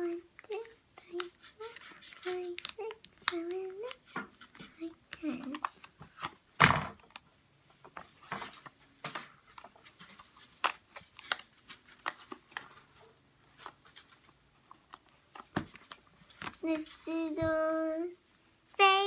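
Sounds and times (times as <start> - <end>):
tape and paper tube crinkling: 0.0 - 18.0.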